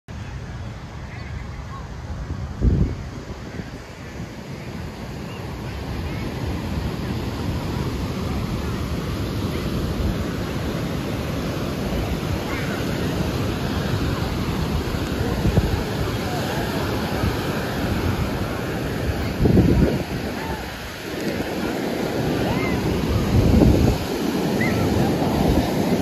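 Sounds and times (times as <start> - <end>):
ocean waves breaking: 0.1 - 26.0
wind buffeting microphone: 0.2 - 26.0.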